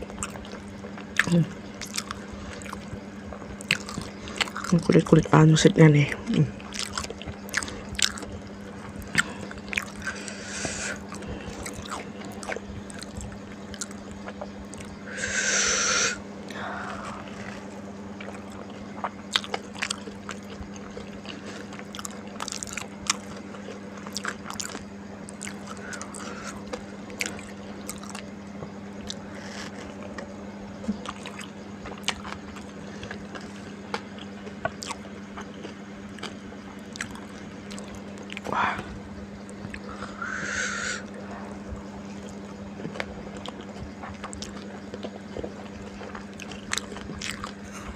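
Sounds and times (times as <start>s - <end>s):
crunchy food chewing: 0.0s - 47.9s
steady low hum: 0.0s - 47.9s.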